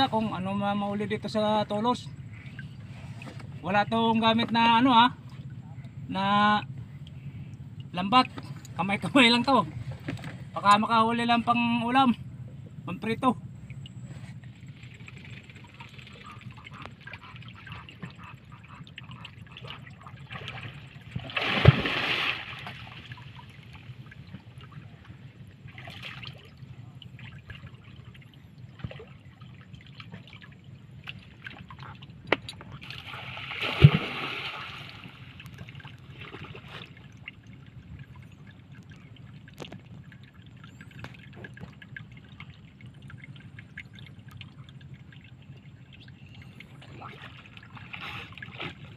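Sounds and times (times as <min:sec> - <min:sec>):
water splashing and trickling: 0:00.0 - 0:48.9.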